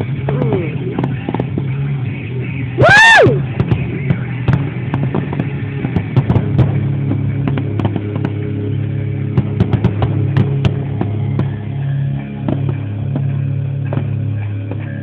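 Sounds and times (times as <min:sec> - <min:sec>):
fireworks popping and crackling: 0:00.0 - 0:15.0
low hum: 0:00.0 - 0:15.0
music: 0:00.0 - 0:15.0.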